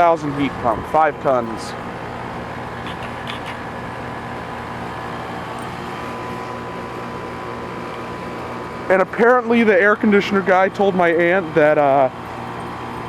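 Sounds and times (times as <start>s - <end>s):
heat pump humming: 0.0s - 13.0s.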